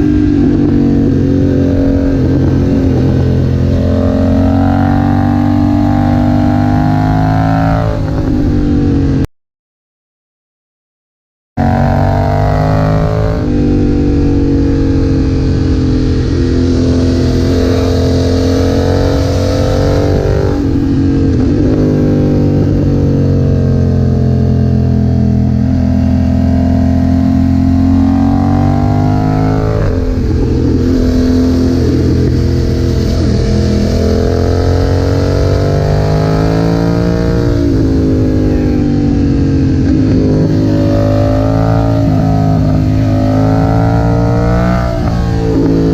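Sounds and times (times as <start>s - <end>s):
motorcycle engine revving: 0.0s - 9.3s, 11.6s - 45.9s.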